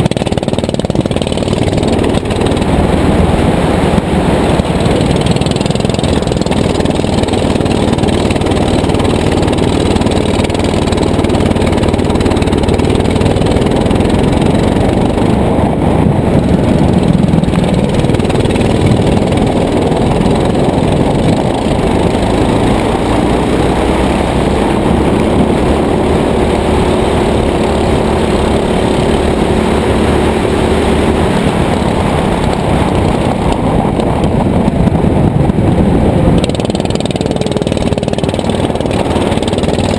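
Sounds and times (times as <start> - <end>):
go-kart engine: 0.0 - 39.9
rush of noise: 0.0 - 39.9.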